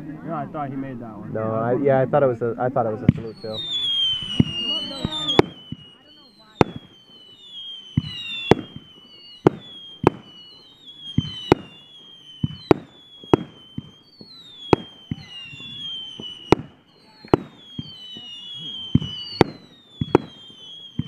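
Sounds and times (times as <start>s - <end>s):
descending firework whistles: 2.7s - 21.0s
firework bangs: 2.7s - 21.0s.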